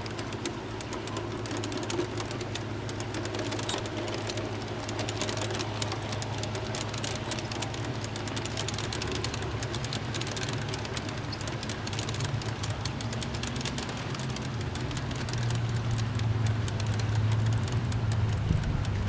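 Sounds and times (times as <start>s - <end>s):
model train wheels rattling on rails: 0.0s - 19.0s.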